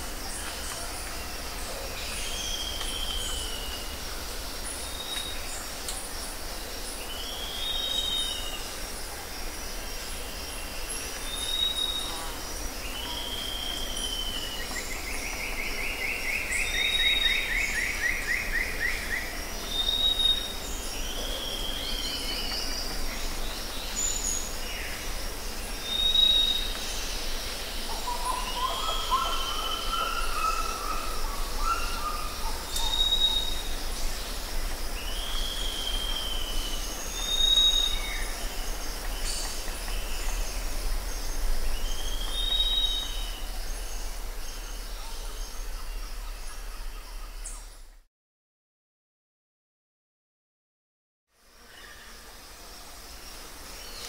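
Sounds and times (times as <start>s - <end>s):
background hiss: 0.0s - 47.9s, 51.4s - 54.0s.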